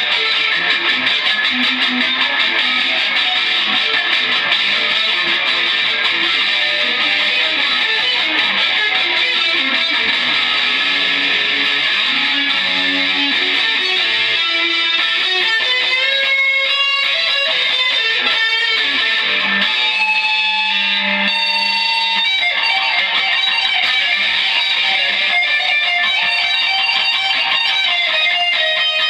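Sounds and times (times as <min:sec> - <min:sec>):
loud electric guitar: 0:00.0 - 0:29.0.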